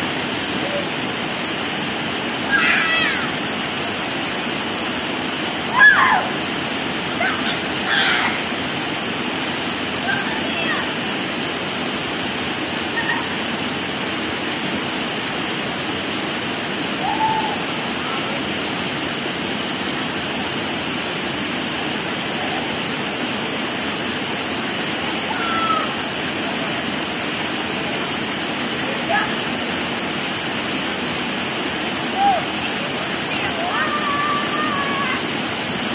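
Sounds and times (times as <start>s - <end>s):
waterfall rushing into pool: 0.0s - 35.9s.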